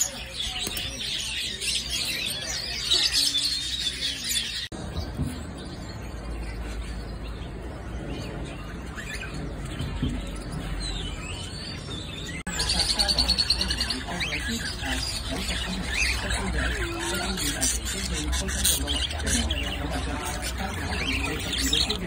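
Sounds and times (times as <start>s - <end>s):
caged birds chirping: 0.0s - 22.0s.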